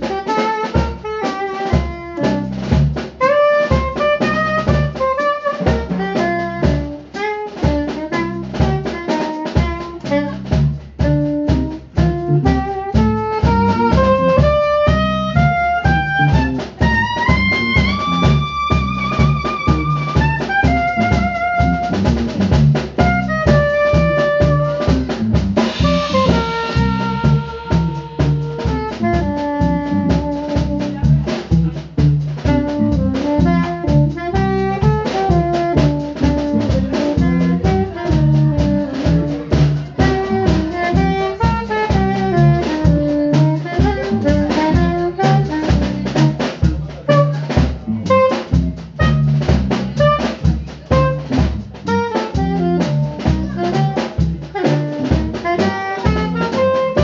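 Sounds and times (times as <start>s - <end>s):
brass lead with vibrato: 0.0s - 57.0s
drum kit beat: 0.0s - 57.0s.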